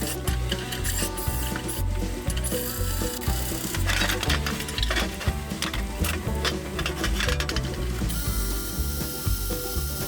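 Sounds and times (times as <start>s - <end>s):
hand tool rasping on metal: 0.0s - 8.2s
background music: 0.0s - 10.0s.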